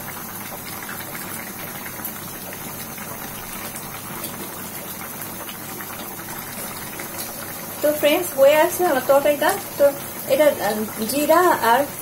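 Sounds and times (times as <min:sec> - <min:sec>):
curry simmering and bubbling: 0:00.0 - 0:12.0.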